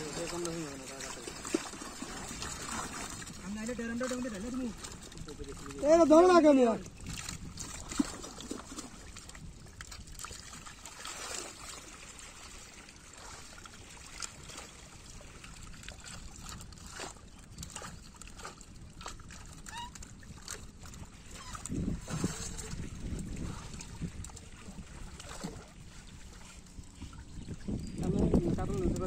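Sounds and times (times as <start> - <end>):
pond water splashing: 0.0 - 29.0.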